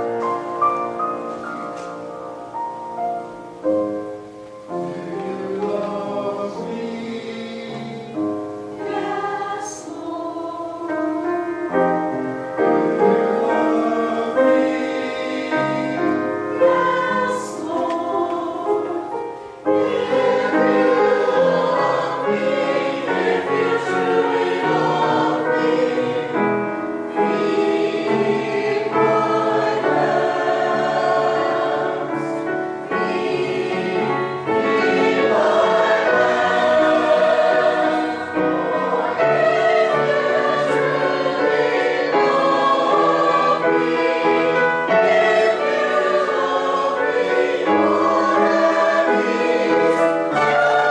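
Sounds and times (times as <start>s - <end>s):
choir singing: 0.0s - 50.9s.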